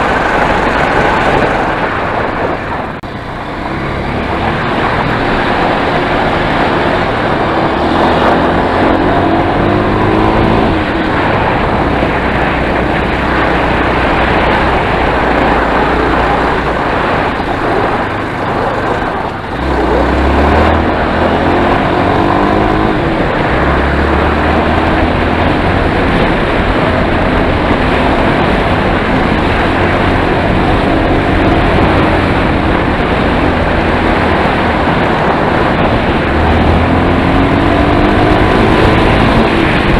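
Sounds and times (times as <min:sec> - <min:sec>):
steady noisy rush: 0:00.0 - 0:39.9
motorcycle engine revving: 0:03.0 - 0:39.9.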